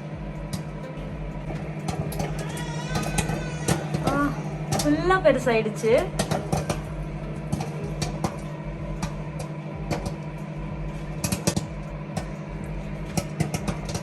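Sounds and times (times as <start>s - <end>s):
microwave oven humming: 0.0s - 14.0s
popcorn popping: 0.0s - 14.0s.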